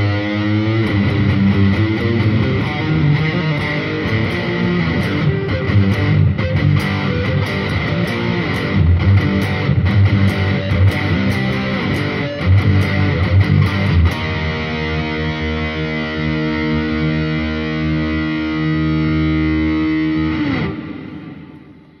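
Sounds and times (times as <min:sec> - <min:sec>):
distorted electric guitar riff: 0:00.0 - 0:22.0.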